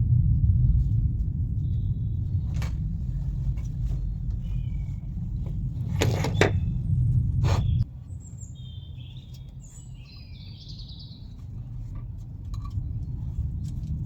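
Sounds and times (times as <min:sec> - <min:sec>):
low rumble: 0:00.0 - 0:09.2, 0:11.2 - 0:14.0
birds chirping faintly: 0:01.4 - 0:14.0.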